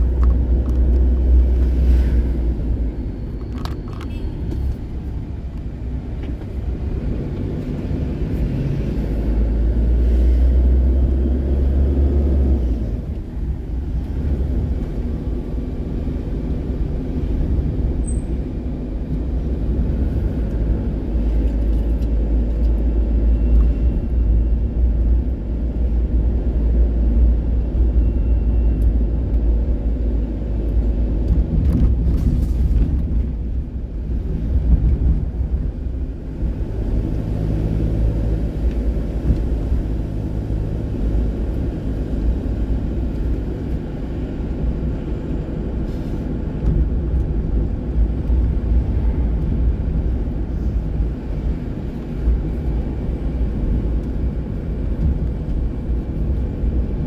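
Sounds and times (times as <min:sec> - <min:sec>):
vehicle engine and tyre noise: 0:00.0 - 0:57.0.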